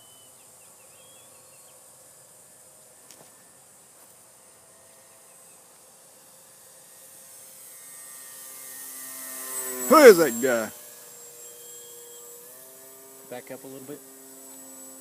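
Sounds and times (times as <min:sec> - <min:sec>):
model plane engine: 0:00.0 - 0:15.0.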